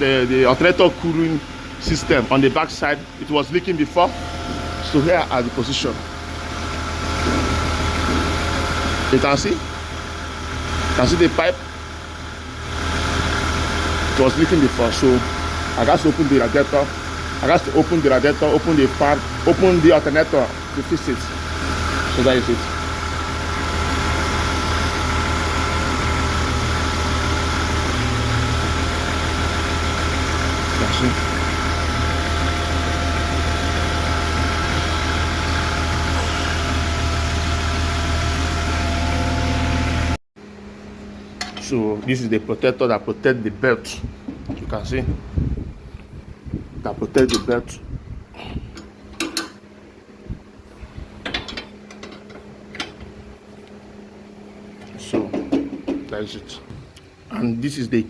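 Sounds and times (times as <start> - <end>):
car engine idling: 0.0 - 57.3
steady low hum: 0.0 - 58.0.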